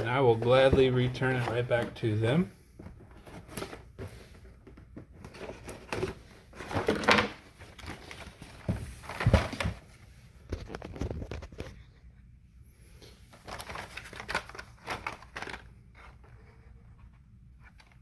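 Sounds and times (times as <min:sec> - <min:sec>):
cardboard and plastic rustling: 0:00.0 - 0:11.9, 0:13.2 - 0:18.0.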